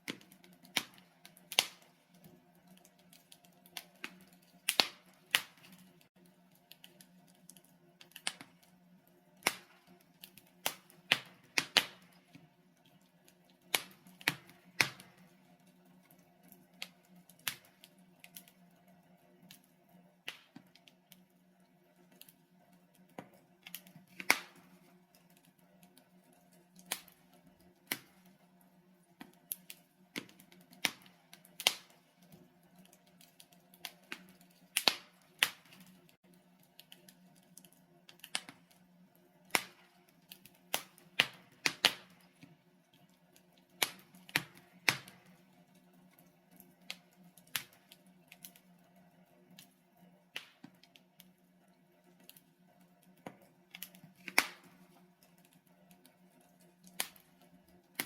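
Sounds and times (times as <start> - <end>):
fire popping: 0.0 - 18.6, 21.9 - 48.7, 49.5 - 51.3, 53.1 - 58.0
logs crackling in fireplace: 0.0 - 58.0.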